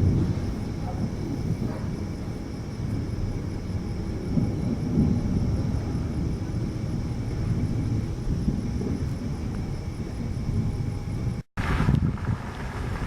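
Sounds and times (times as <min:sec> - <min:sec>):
thunderstorm rumbling: 0:00.0 - 0:13.0.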